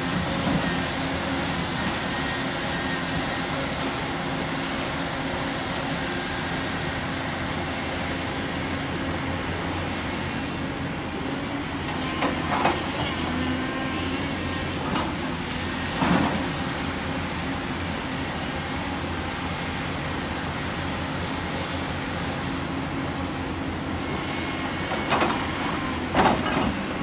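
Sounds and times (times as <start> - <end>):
diesel excavator engine running: 0.0 - 27.0.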